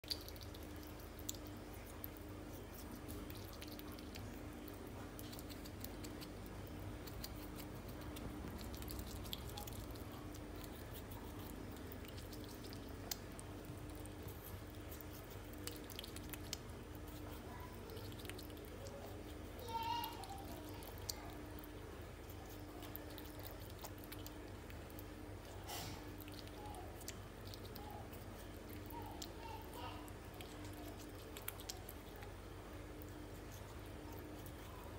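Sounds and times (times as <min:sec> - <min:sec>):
squirrel chewing wet fruit: 0:00.0 - 0:34.9
teeth and claws clicking: 0:00.0 - 0:34.9.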